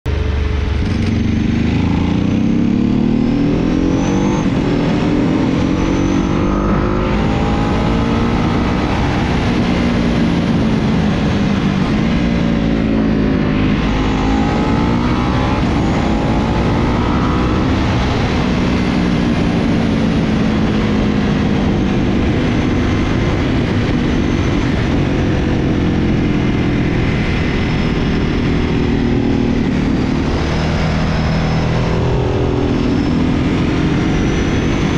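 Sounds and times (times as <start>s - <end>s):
wind noise: 0.2s - 34.9s
motorbike engine revving: 0.3s - 34.9s.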